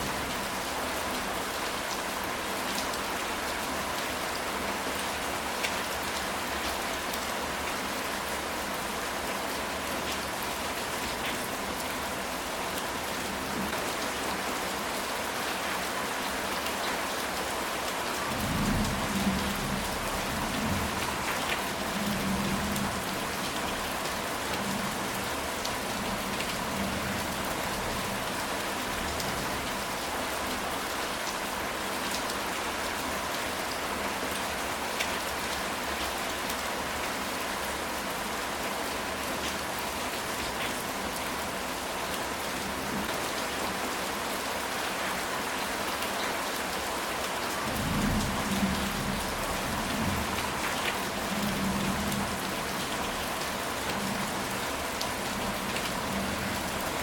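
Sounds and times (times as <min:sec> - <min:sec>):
heavy rain on tile roof: 0:00.0 - 0:57.0.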